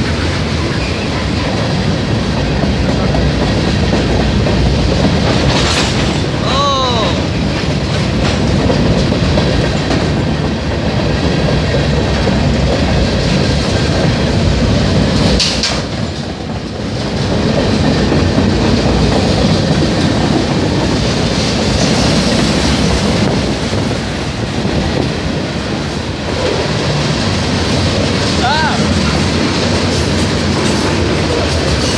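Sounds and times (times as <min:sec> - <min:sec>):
train wheels clickety-clack: 0:00.0 - 0:31.9.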